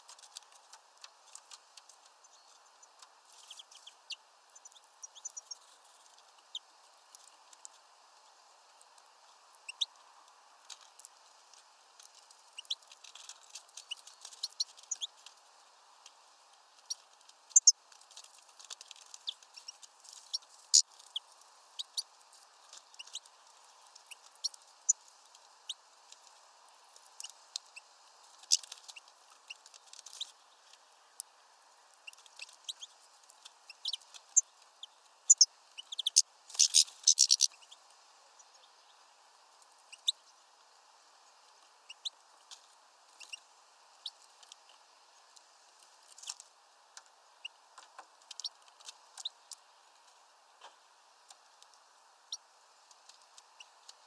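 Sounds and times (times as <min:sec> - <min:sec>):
birds pecking and scrabbling: 0:00.0 - 0:54.0.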